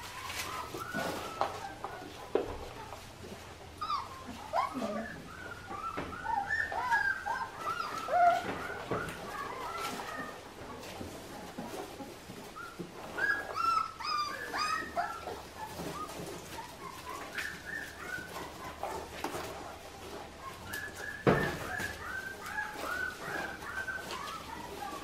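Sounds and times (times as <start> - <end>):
puppies whining and yipping: 0.0 - 25.0.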